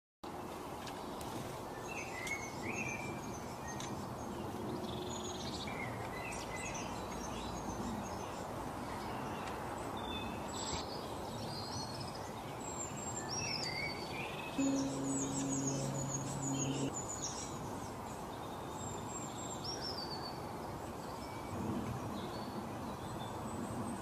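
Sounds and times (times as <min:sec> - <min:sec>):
songbirds chirping: 0:00.4 - 0:21.4.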